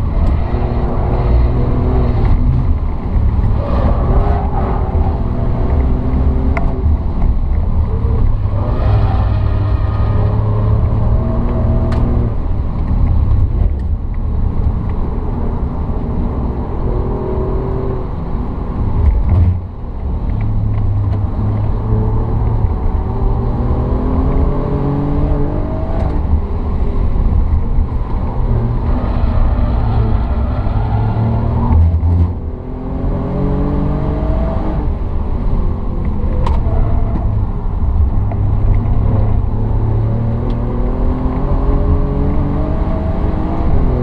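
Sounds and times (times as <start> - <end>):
car engine revving with gear changes: 0.0 - 44.0
low road rumble: 0.0 - 44.0.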